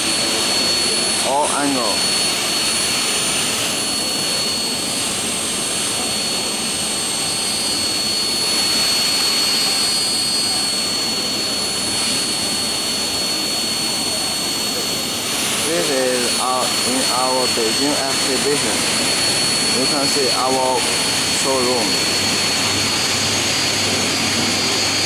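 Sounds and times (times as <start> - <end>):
high-pitched machine whine: 0.0 - 25.0.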